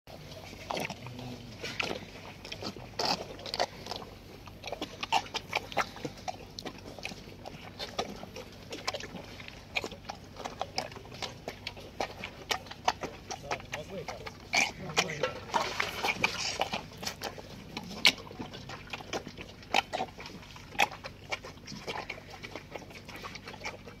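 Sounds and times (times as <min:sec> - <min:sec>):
calf slurping milk: 0:00.1 - 0:24.0.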